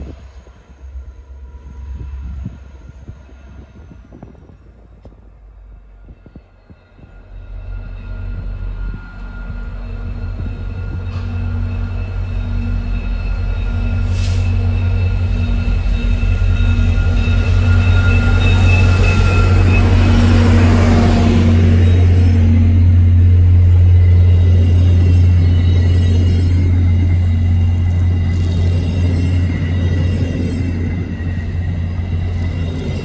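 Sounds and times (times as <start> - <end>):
diesel locomotive engine drone: 0.0 - 33.0
train coaches rumbling on rails: 0.0 - 33.0.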